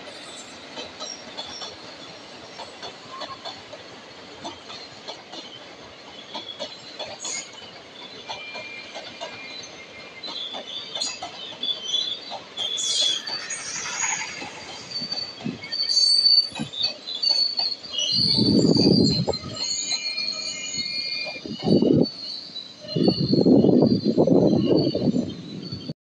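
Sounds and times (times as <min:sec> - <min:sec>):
low train rumble: 0:00.0 - 0:25.9
train wheels squealing: 0:00.0 - 0:25.9.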